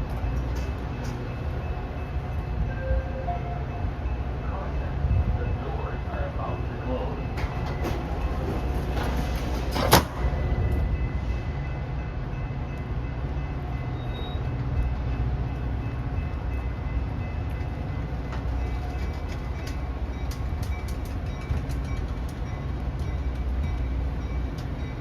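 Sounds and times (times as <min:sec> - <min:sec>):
train engine rumbling: 0:00.0 - 0:25.0.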